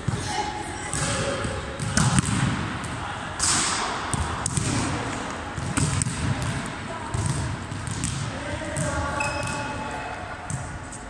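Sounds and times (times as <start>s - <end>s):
volleyballs hit and bouncing: 0.0s - 11.0s.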